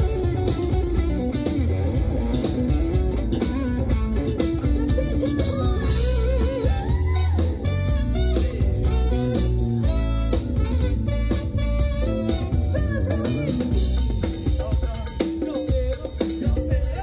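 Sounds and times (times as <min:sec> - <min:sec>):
lead guitar: 0:00.0 - 0:17.0
live latin band: 0:00.0 - 0:17.0.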